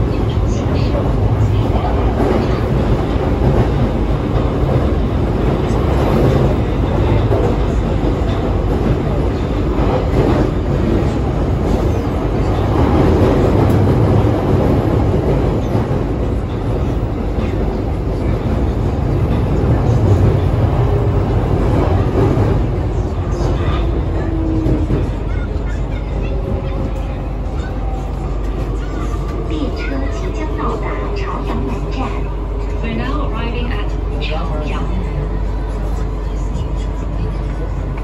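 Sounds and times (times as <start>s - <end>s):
subway train wheels rumbling: 0.0s - 38.0s.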